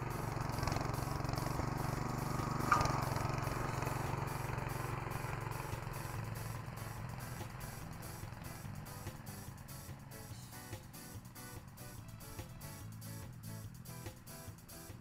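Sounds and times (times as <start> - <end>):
petrol engine running: 0.0 - 15.0.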